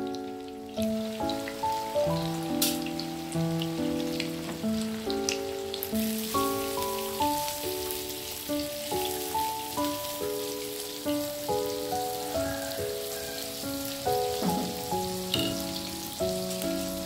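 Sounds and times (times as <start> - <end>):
background music melody: 0.0 - 17.0
food frying in oil: 0.0 - 17.0.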